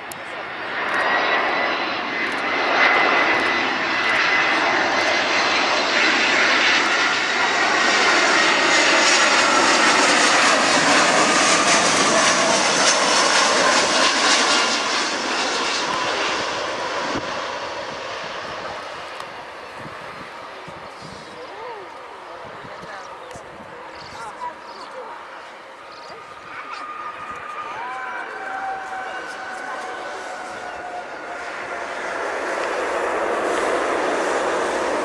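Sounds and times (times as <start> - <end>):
jet airliner engines passing: 0.0 - 35.0.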